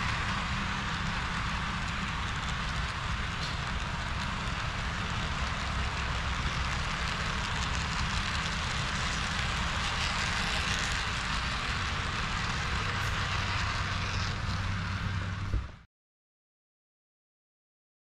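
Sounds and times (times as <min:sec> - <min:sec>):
model train running: 0:00.0 - 0:15.8
low hum: 0:00.0 - 0:15.9.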